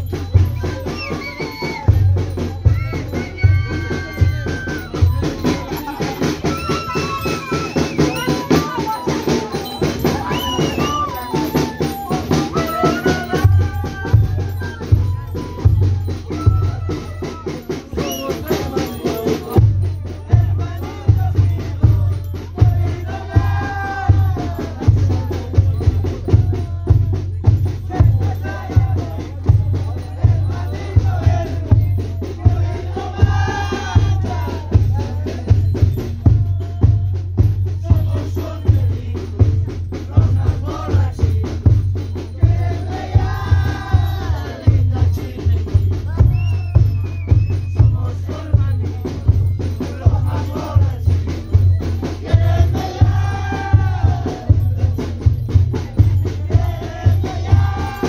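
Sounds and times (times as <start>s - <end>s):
bass drum beating: 0.0s - 58.0s
festival music melody: 0.0s - 58.0s.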